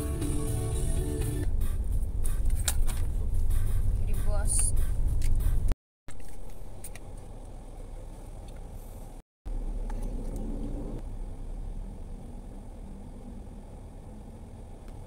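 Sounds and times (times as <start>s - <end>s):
car interior low rumble: 0.0s - 15.0s.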